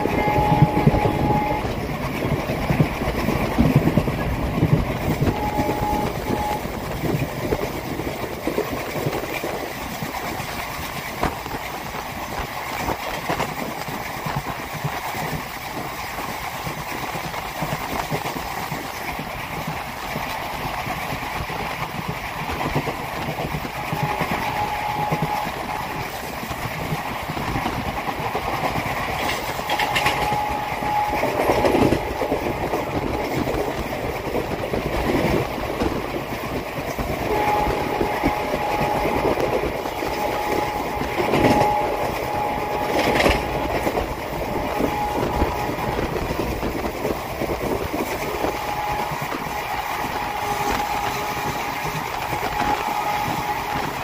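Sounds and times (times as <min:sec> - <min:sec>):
clickety-clack of rail joints: 0:00.0 - 0:54.0
train wheels rumbling on rails: 0:00.0 - 0:54.0.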